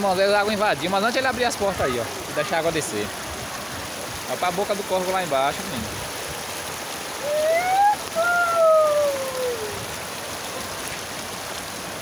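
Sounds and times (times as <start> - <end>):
floodwater rushing: 0.0 - 12.0
heavy rain: 0.0 - 12.0.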